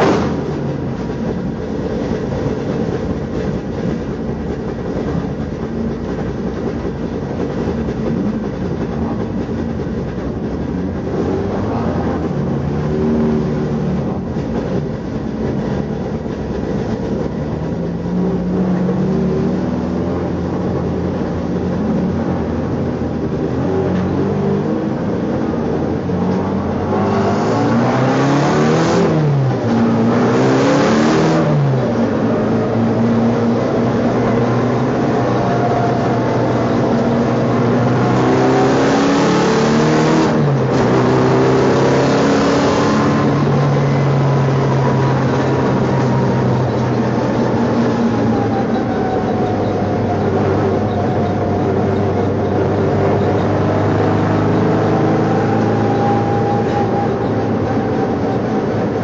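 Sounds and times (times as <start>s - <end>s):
engine revving: 0.0s - 1.2s, 9.0s - 15.8s, 17.2s - 59.0s
race car engine running: 0.0s - 59.0s.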